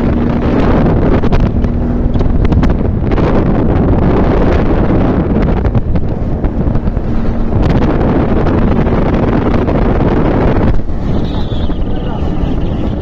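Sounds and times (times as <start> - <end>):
vehicle engine humming: 0.0 - 13.0
wind buffeting microphone: 0.0 - 13.0.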